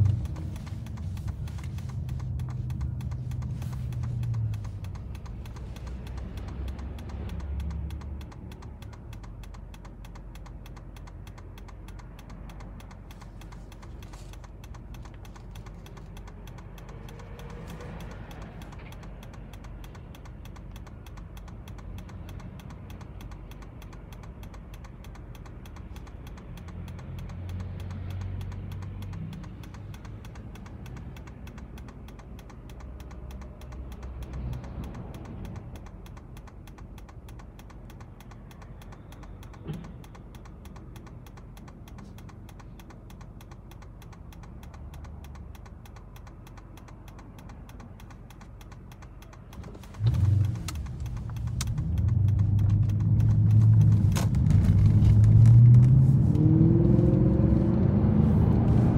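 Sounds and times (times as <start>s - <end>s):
car engine idling: 0.0s - 58.9s
turn signal relay ticking: 0.0s - 58.9s.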